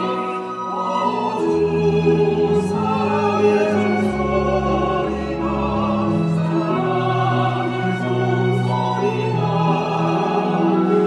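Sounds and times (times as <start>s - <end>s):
violins playing: 0.0s - 11.0s
vocal ensemble singing a hymn: 0.0s - 11.0s.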